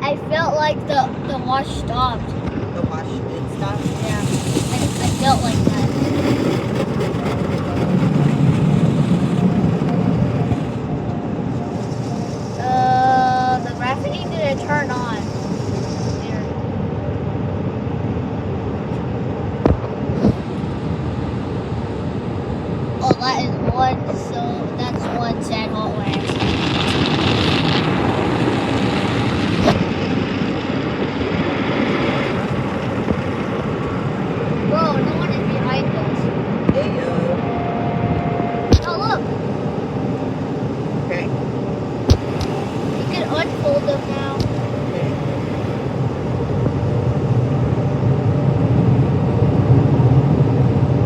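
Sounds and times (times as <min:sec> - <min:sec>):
car wash machine noise: 0:00.0 - 0:16.6, 0:20.2 - 0:51.0.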